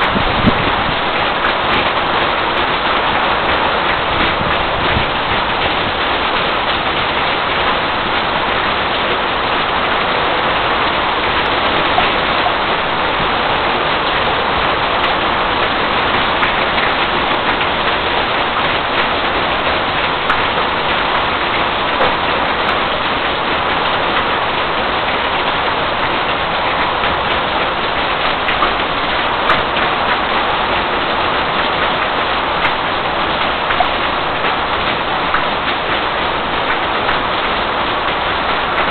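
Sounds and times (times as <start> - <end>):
heavy rain pouring: 0.0 - 38.9
raindrop hits: 0.0 - 38.9.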